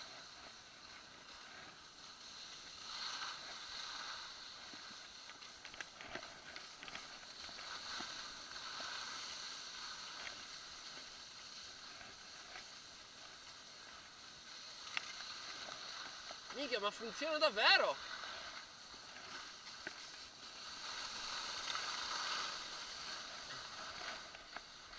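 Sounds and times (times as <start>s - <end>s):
small clicks and scrapes: 0.0s - 16.6s, 18.0s - 24.9s
skis hissing over snow: 0.0s - 24.9s.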